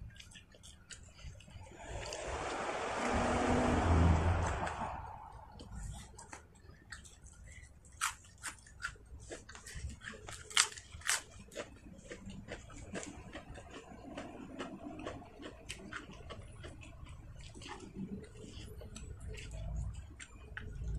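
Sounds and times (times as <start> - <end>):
person chewing crunchy food: 0.0 - 2.5, 5.5 - 20.9.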